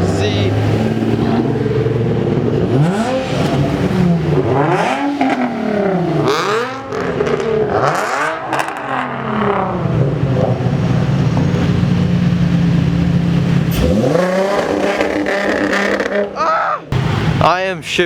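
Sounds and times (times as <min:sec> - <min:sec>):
car engine revving: 0:00.0 - 0:17.6
sharp exhaust cracks: 0:00.1 - 0:17.8.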